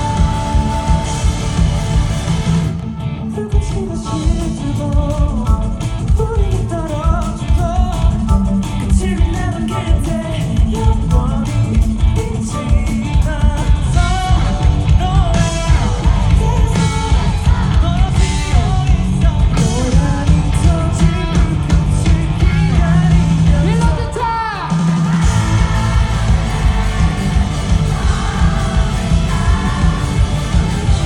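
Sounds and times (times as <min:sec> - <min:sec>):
live rock band playing: 0:00.0 - 0:31.0
person singing lead vocal: 0:00.0 - 0:31.0.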